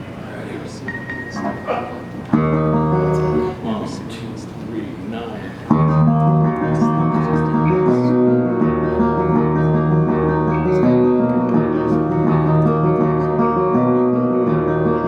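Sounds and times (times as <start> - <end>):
band playing held chords: 0.9 - 4.0, 5.6 - 15.0.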